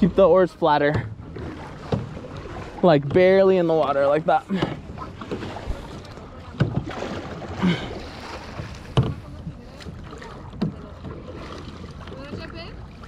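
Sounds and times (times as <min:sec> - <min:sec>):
paddle stroking through water: 0:00.0 - 0:13.0
water wash: 0:00.0 - 0:13.0.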